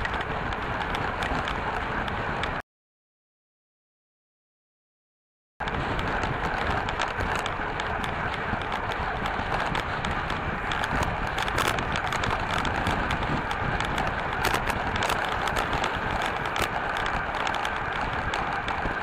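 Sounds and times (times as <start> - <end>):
small clicks and rattles: 0.0 - 2.6, 5.6 - 19.0
tyres on asphalt: 0.0 - 2.6, 5.6 - 19.0
wind on microphone: 0.0 - 2.6, 5.6 - 19.0.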